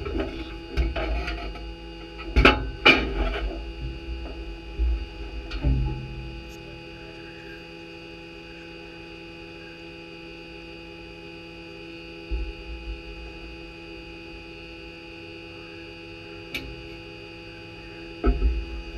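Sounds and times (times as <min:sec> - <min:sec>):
steady tonal hum: 0:00.0 - 0:18.9.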